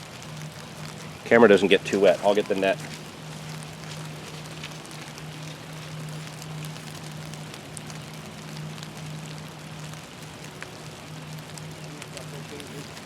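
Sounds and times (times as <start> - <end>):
rain falling: 0.0 - 13.0
steady low hum: 0.0 - 13.0.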